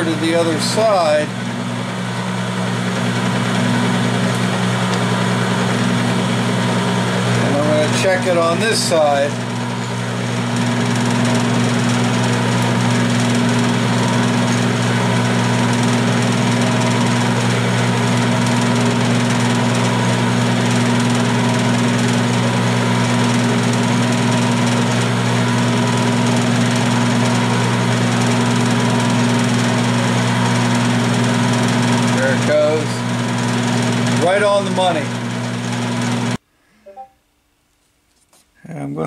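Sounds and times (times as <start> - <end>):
milling machine motor hum: 0.0 - 36.4.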